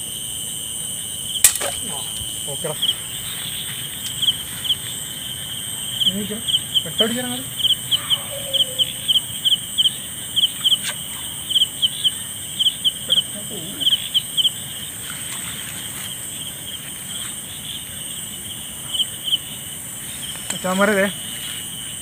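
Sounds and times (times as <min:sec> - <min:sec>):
cricket chirping: 0:00.0 - 0:22.0
high-pitched insect drone: 0:00.0 - 0:22.0.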